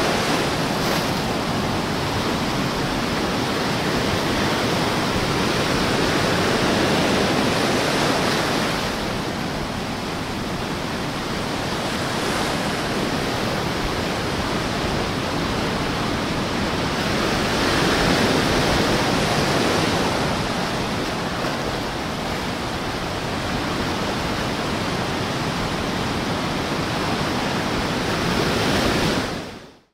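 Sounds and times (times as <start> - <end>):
small waves lapping on sand: 0.0 - 29.6.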